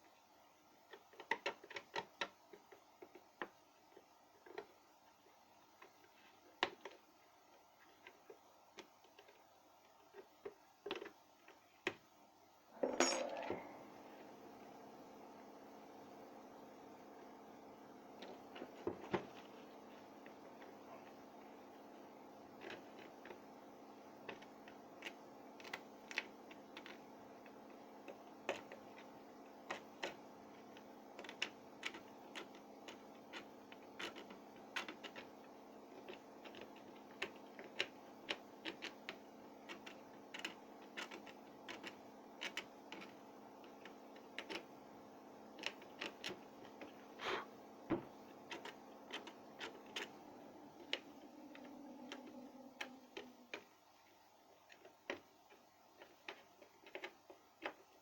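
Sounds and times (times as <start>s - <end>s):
steady low hum: 3.8s - 58.0s.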